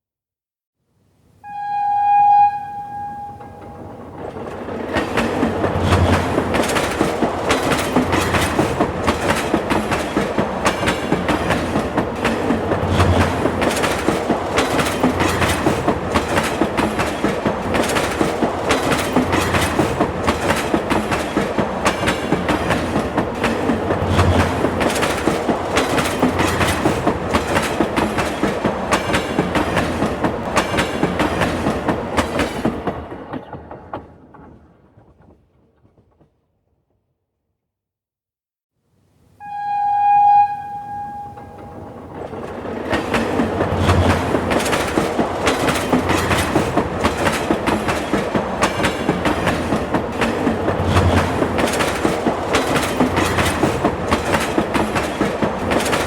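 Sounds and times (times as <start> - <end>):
train wheels clattering over rail joints: 4.1 - 36.4, 42.1 - 56.0.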